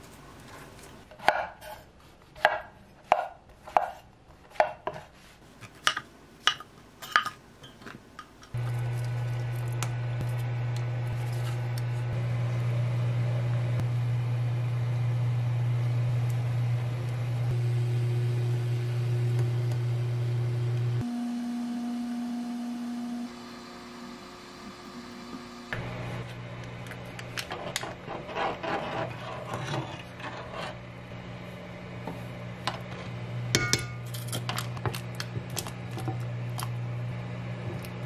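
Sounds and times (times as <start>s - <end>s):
cooktop low hum: 0.0s - 38.0s.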